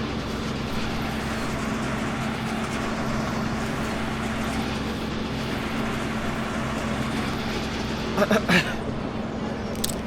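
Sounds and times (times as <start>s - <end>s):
large engine running: 0.0s - 10.0s.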